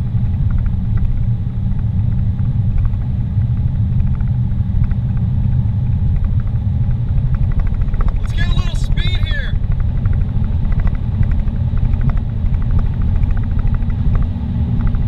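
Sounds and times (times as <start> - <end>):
car driving interior rumble: 0.0 - 15.0.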